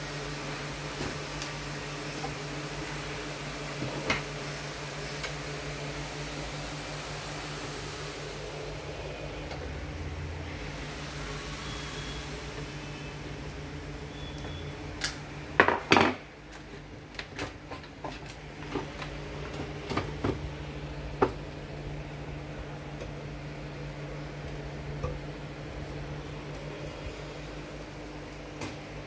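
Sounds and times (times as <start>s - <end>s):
steady low hum: 0.0s - 15.6s, 18.3s - 29.0s.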